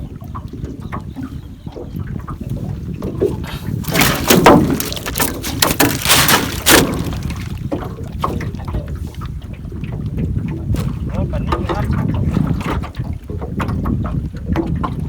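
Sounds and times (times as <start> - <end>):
low rumble of wind and waves: 0.0 - 15.0
water splashing and sloshing: 0.0 - 15.0.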